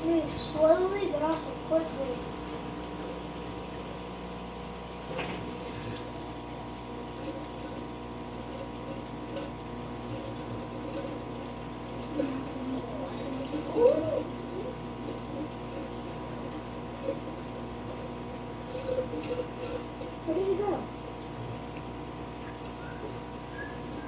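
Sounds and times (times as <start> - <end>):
aquarium pump humming: 0.0 - 24.0
water running: 0.0 - 24.0.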